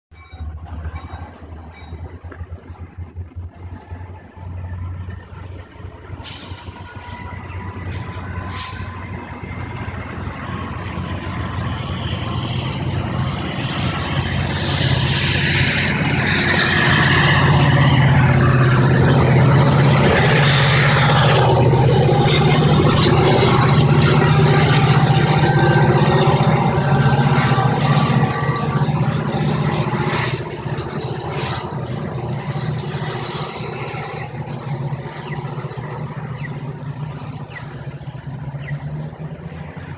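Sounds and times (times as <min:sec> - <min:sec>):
diesel locomotive engine drone: 0:00.1 - 0:39.9.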